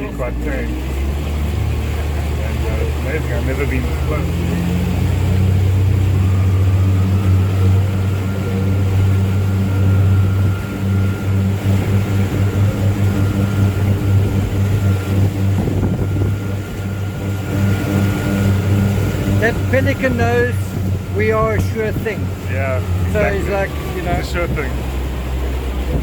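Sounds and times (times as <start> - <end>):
outboard motors running: 0.0 - 26.0.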